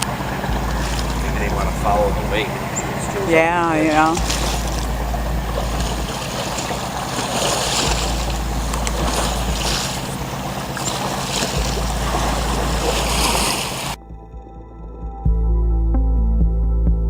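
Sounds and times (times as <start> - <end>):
water splashing around canoe: 0.0 - 14.0
wind rumbling on microphone: 0.0 - 14.0.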